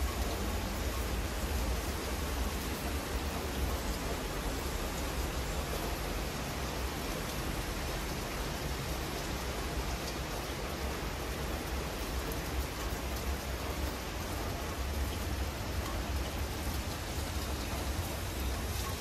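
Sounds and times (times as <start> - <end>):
rain falling on leaves: 0.0 - 19.0.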